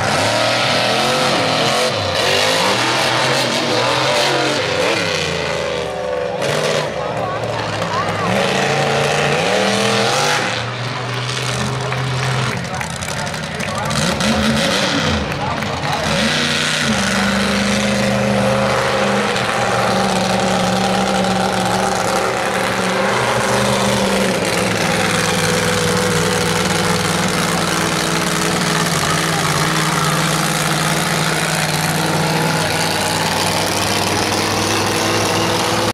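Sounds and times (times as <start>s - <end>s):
monster truck engine running: 0.0s - 35.9s.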